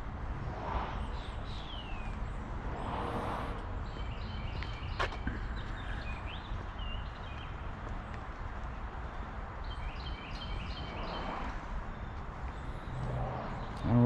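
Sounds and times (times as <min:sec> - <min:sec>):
low rumble of wind or traffic: 0:00.0 - 0:14.0.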